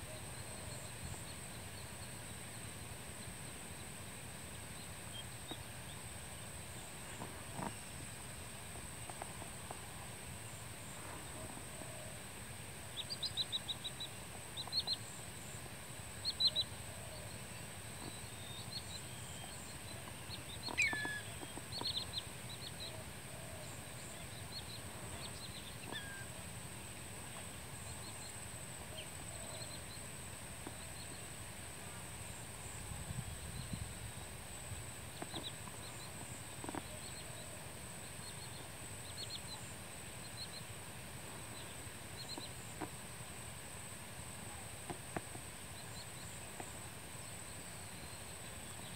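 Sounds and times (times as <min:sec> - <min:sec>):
wading birds chirping: 0:00.0 - 0:48.9.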